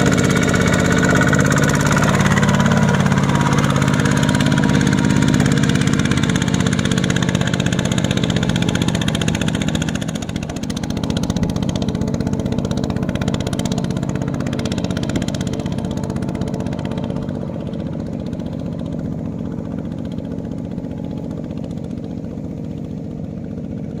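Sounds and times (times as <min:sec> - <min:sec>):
diesel engine chugging: 0:00.0 - 0:24.0.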